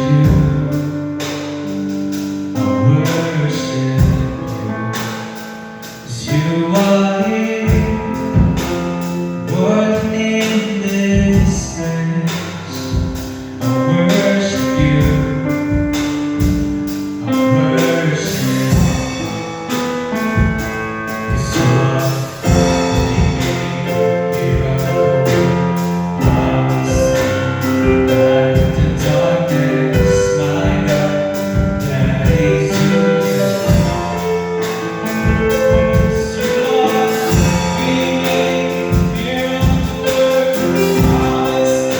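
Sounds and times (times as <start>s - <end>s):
gospel song with singing: 0.0s - 41.9s.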